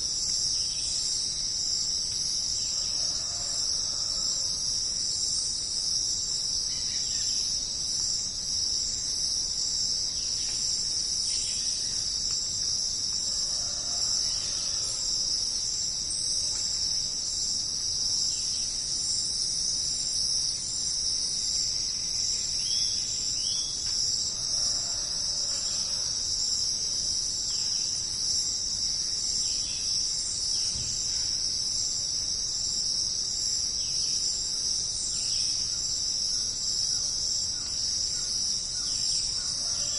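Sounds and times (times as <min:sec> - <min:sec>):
insects chorus shrilling: 0:00.0 - 0:39.9.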